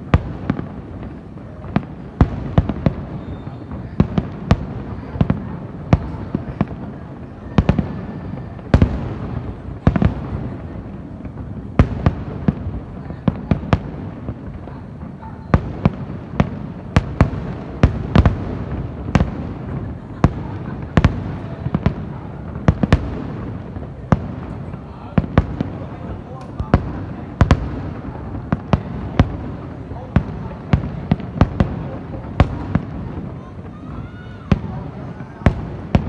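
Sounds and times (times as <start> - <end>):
fireworks bursting with sharp bangs: 0.0 - 36.0.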